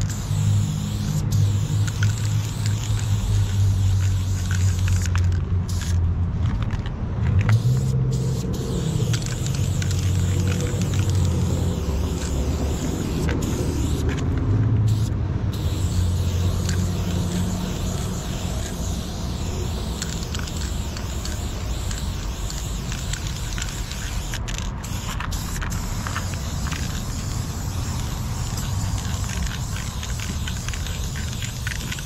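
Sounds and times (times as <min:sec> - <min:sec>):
spray paint can hissing: 0:00.0 - 0:32.0
steady low rumble: 0:00.0 - 0:32.0.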